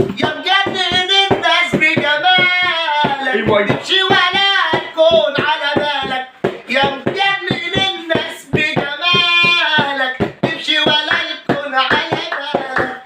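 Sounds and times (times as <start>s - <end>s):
man singing: 0.0s - 13.0s
quick hand percussion beat: 0.0s - 13.0s.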